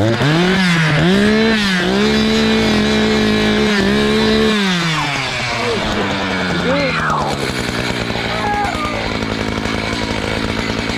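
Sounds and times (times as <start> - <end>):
chainsaw revving: 0.0 - 10.9.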